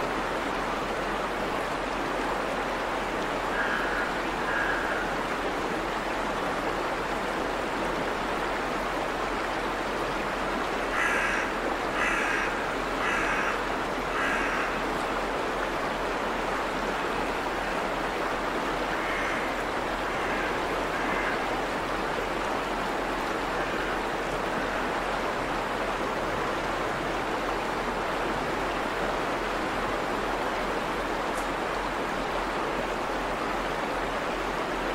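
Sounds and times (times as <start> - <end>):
water rushing over weir: 0.0 - 34.9.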